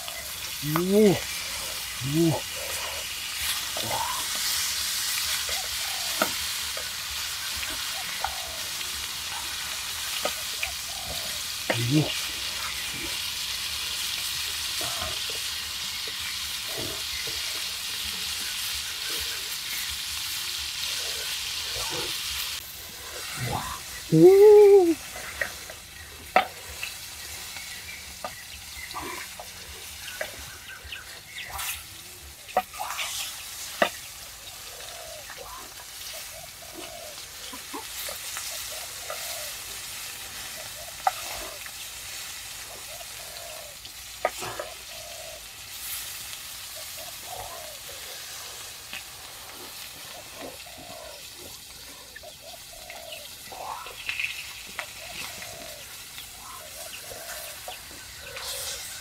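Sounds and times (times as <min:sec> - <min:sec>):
meat sizzling in a pan: 0:00.0 - 0:59.0.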